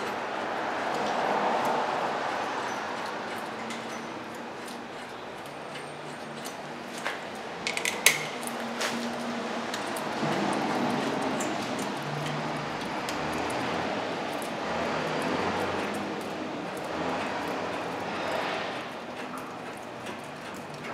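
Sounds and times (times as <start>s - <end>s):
steady background noise: 0.0s - 20.9s.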